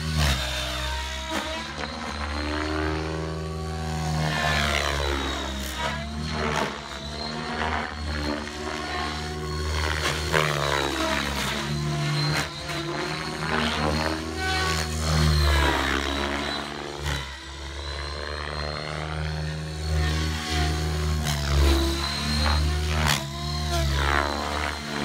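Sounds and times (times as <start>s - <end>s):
rc helicopter rotor whine: 0.0s - 25.0s.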